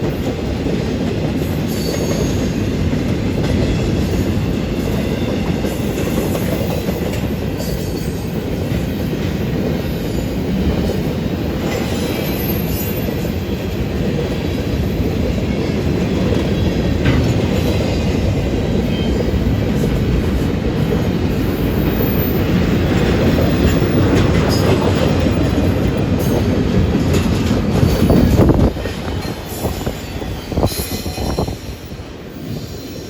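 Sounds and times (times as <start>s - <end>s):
light train clatter: 0.0s - 33.0s
train wheels rumbling on rail: 0.0s - 33.0s.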